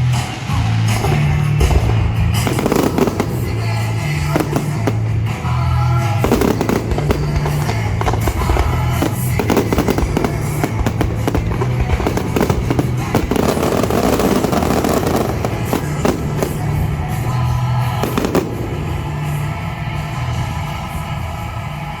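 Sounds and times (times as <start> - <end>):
fireworks bursting and crackling: 0.0 - 22.0
music with steady bass line: 0.0 - 22.0.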